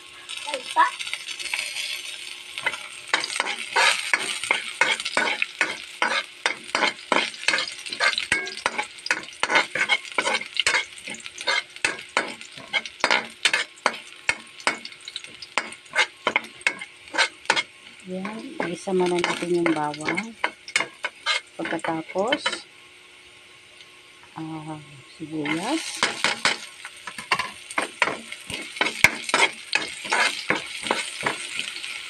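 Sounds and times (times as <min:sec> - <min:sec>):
garlic sizzling in a frying pan: 0:00.0 - 0:32.0
spatula scraping a pan: 0:01.5 - 0:22.6, 0:25.4 - 0:32.0.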